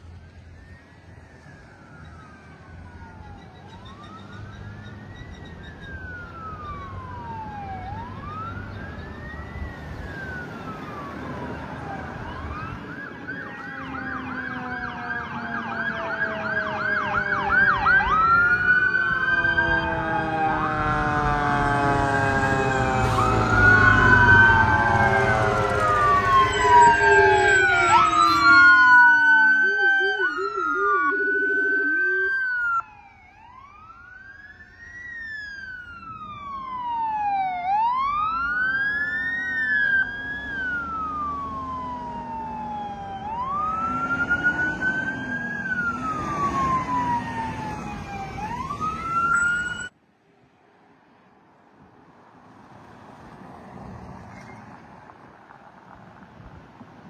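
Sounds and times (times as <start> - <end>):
emergency vehicle sirens wailing: 0.0 - 50.0
fast siren warble: 0.6 - 49.9.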